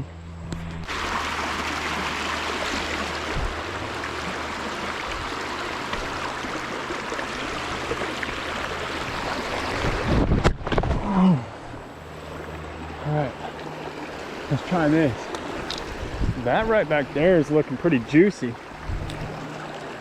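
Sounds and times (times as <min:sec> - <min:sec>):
water running over rocks: 0:00.8 - 0:10.9, 0:12.5 - 0:20.0.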